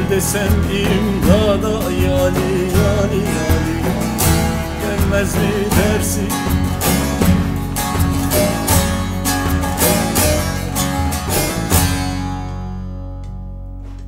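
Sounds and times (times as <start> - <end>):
plucked and strummed lute: 0.0 - 14.0.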